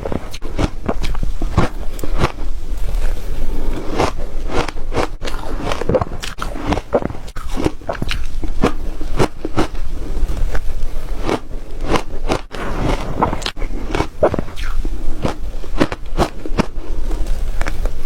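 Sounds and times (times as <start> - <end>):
ice crunching being chewed: 0.0 - 18.0.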